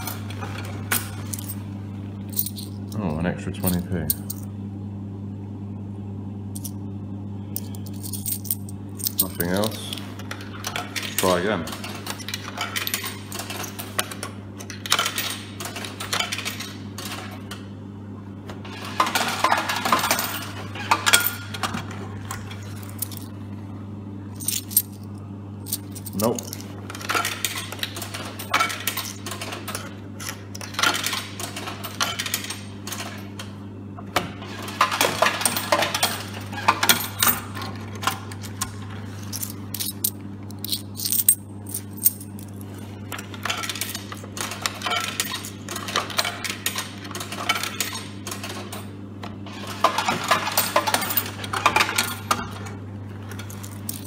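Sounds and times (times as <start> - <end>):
coins clinking through vending machine: 0.0 - 4.5, 7.5 - 17.7, 18.6 - 23.4, 24.3 - 33.5, 34.1 - 54.0.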